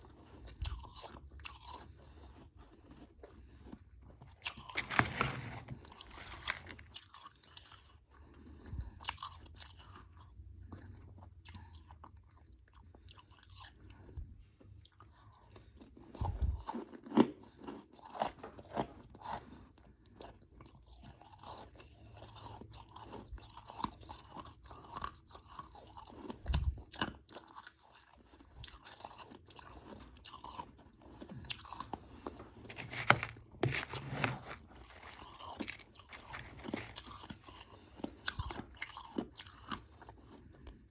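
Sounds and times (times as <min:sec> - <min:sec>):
chewing and crunching ice: 0:00.0 - 0:40.9.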